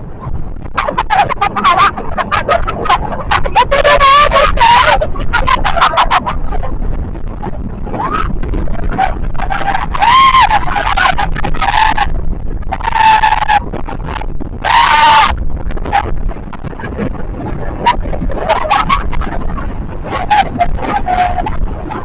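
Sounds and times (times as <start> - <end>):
steady low rumble: 0.0 - 22.0
people screaming: 0.8 - 16.2, 17.6 - 22.0.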